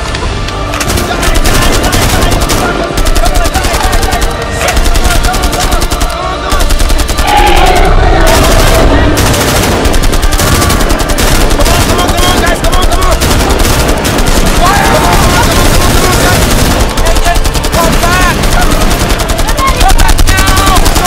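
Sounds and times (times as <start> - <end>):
automatic gunfire: 0.7 - 21.0.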